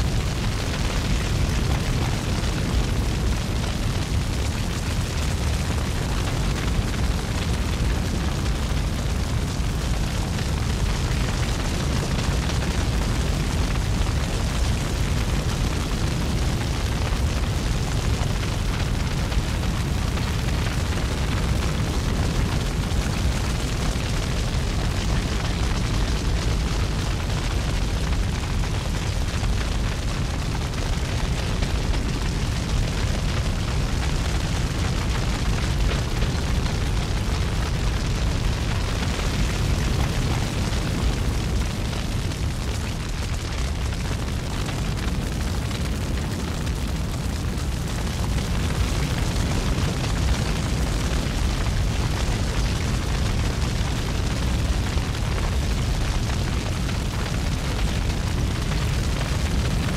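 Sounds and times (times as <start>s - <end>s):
low rumbling noise: 0.0s - 59.9s.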